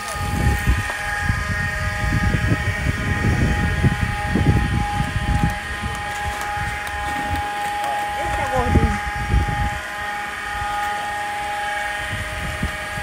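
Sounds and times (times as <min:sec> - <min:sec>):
high-pitched machine whine: 0:00.0 - 0:13.0
wind rumbling on microphone: 0:00.0 - 0:13.0.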